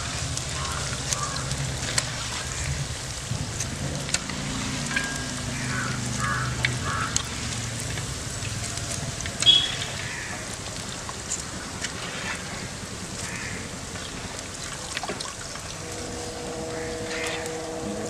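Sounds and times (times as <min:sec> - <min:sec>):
hot oil sizzling: 0:00.0 - 0:14.8.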